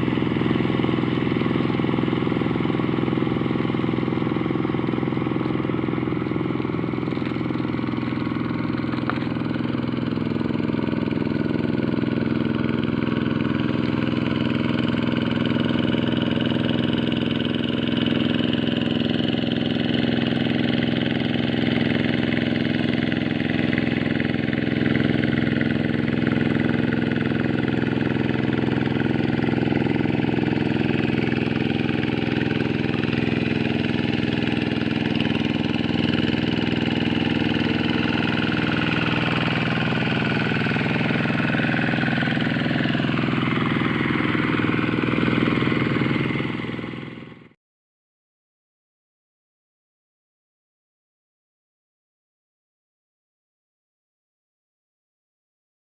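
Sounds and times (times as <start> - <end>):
hand tractor engine running: 0.0 - 47.5.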